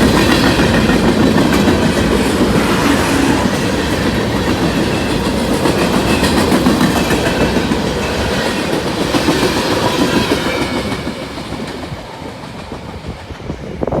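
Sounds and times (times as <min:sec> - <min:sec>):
freight train cars rolling on rails: 0:00.0 - 0:14.0.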